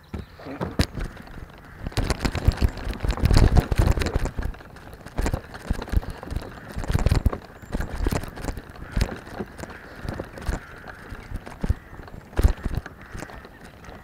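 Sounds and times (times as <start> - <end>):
camera mount knocks and rattles: 0.0 - 14.0.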